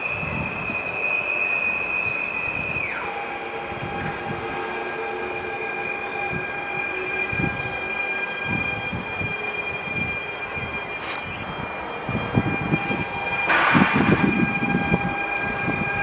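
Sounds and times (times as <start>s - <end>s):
electric train whine: 0.0s - 16.0s
train rumbling on track: 0.0s - 16.0s.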